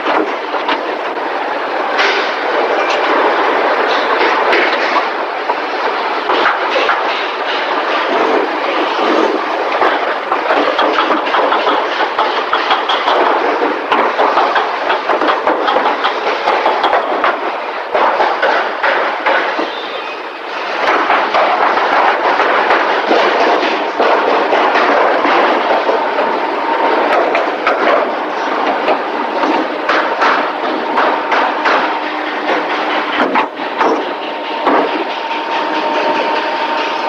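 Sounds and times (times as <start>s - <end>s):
factory metallic clatter and knocks: 0.0s - 37.0s.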